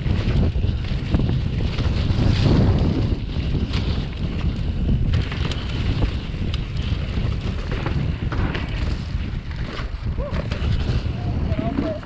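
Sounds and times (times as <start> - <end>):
bike clicks and rattles: 0.0 - 12.0
tyres rumbling on dirt trail: 0.0 - 12.0
wind buffeting microphone: 0.0 - 12.0.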